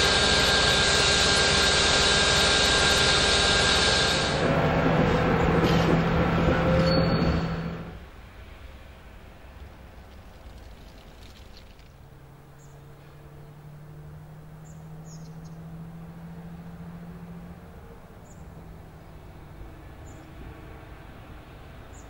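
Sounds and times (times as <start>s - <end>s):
diesel locomotive engine running: 0.0s - 22.0s.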